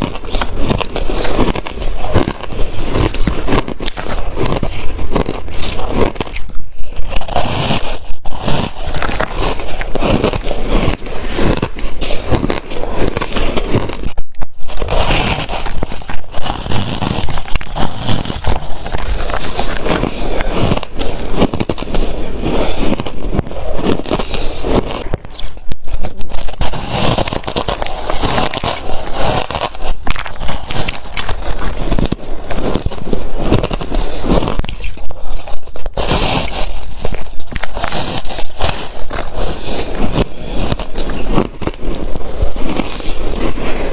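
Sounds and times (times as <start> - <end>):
ice being crunched: 0.0 - 43.9.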